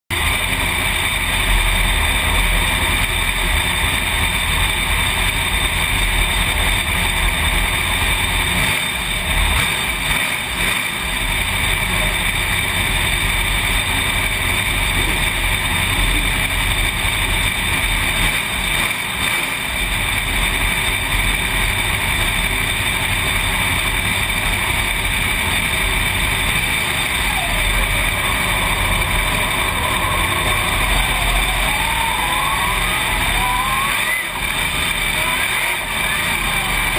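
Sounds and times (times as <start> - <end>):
race car engine running: 0.0 - 36.9.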